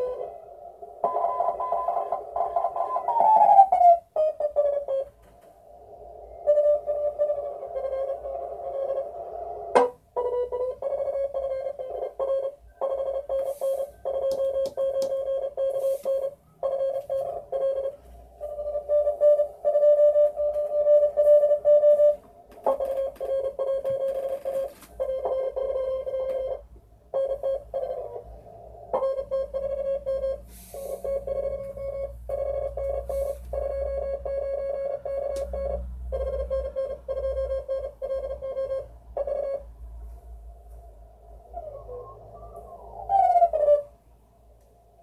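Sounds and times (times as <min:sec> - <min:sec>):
morse code beeping: 0:00.0 - 0:00.3, 0:01.0 - 0:05.3, 0:06.3 - 0:39.7
faint low hum: 0:00.0 - 0:45.0.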